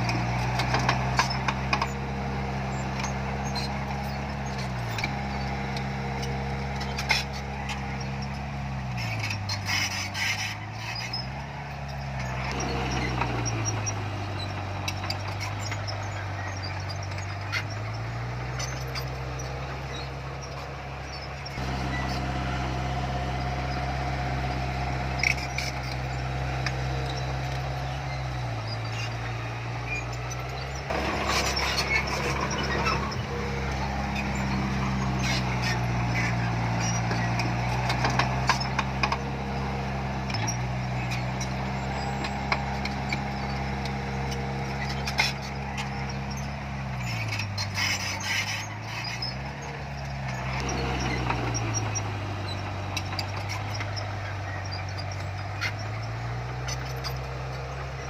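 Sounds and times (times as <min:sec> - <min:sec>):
diesel earthmoving machine engine: 0:00.0 - 0:58.0.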